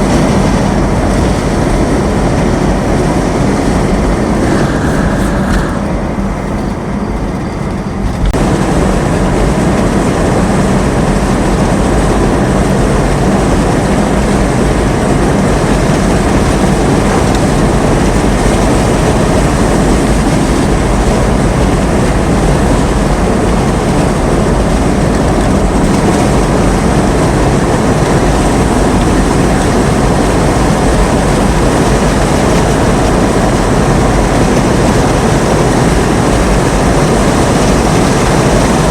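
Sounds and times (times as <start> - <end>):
heavy rain and wind on vehicle: 0.0 - 38.9
road and engine hum: 0.0 - 38.9.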